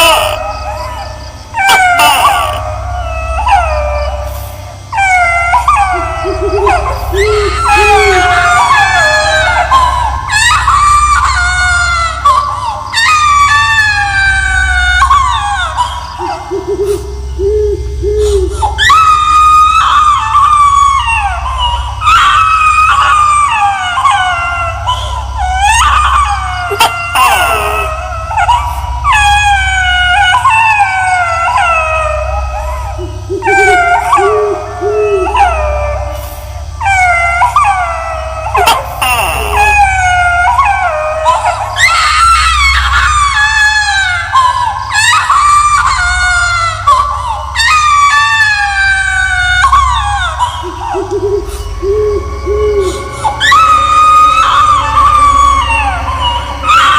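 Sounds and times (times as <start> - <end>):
high-pitched wailing cries: 0.0 - 56.9
steady low drone: 0.0 - 56.9.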